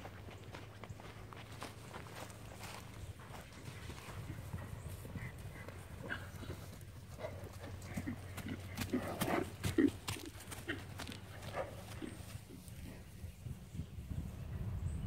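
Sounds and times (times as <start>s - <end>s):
horse hooves on grass: 0.0s - 14.6s.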